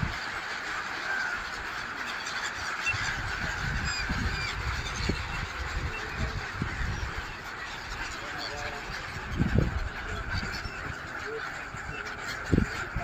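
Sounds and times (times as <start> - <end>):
gulls squawking: 0.0 - 13.0.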